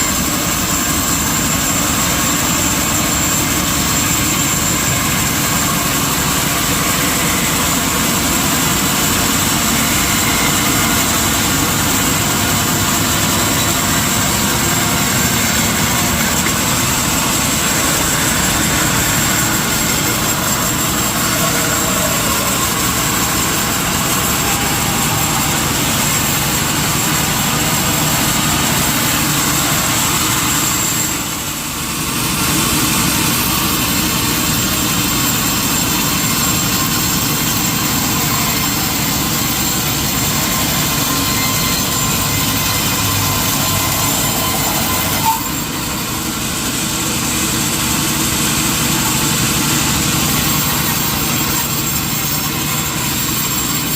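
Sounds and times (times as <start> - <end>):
sawmill machinery whining: 0.0 - 53.9.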